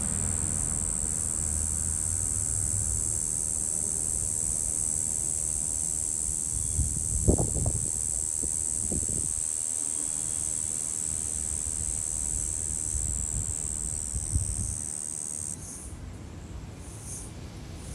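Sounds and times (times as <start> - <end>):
cicada buzzing: 0.0 - 15.9.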